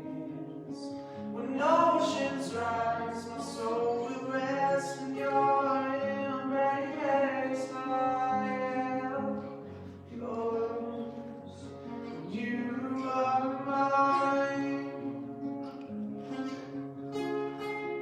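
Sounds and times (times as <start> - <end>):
worship music with guitar and bass: 0.0 - 18.0.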